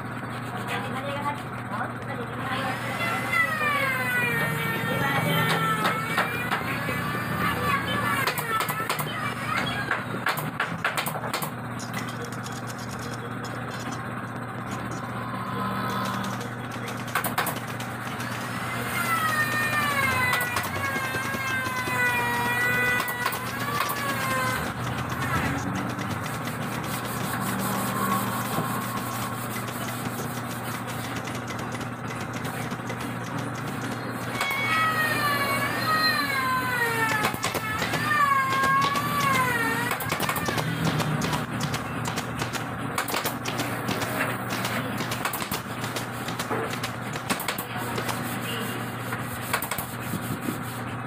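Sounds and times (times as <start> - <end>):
air compressor motor humming: 0.0 - 51.0.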